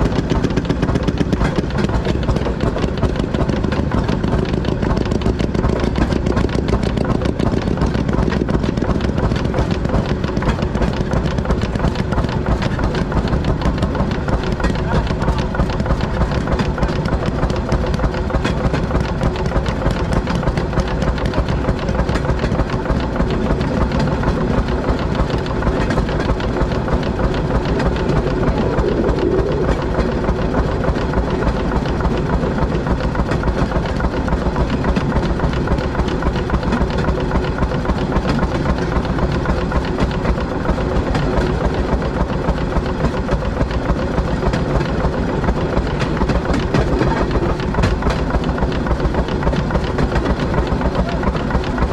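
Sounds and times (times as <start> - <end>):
small engine running on rail track: 0.0 - 51.9.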